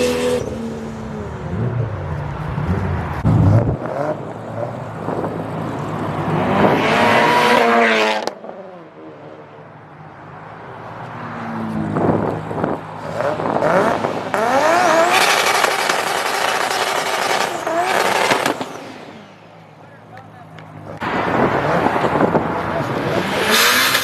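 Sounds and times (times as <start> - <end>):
car engine revving: 0.0 - 8.7, 11.4 - 24.0.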